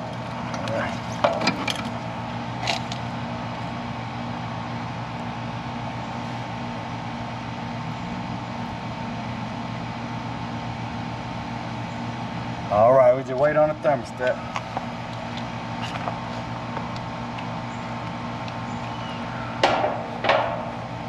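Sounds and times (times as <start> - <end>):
machine hum with held tone: 0.0 - 21.0.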